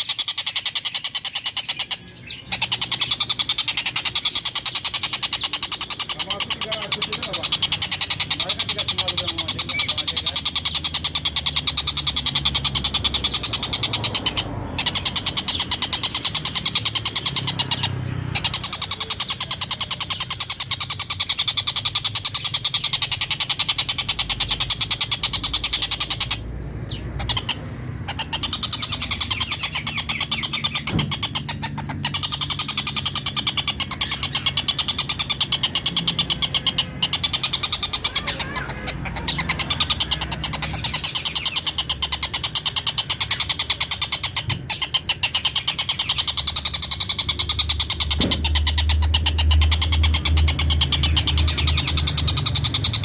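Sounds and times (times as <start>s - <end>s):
kingfisher chattering call: 0.0s - 53.0s.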